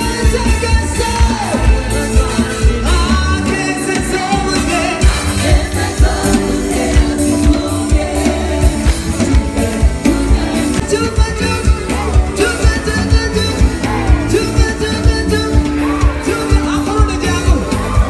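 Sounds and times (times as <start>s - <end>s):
gospel singing with band: 0.0s - 18.0s.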